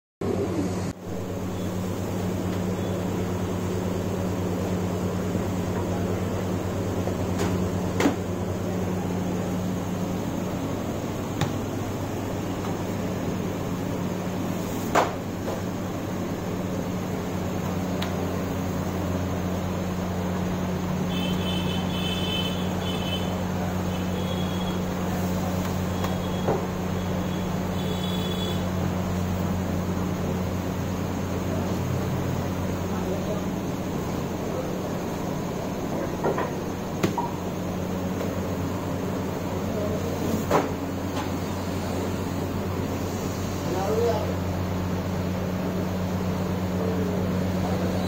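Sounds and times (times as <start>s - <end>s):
machinery humming and whirring: 0.2s - 48.0s.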